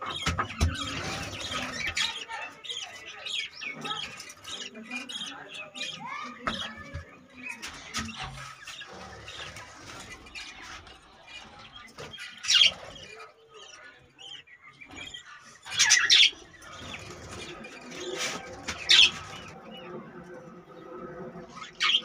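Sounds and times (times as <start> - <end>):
budgerigars chirping and chattering: 0.0 - 22.0.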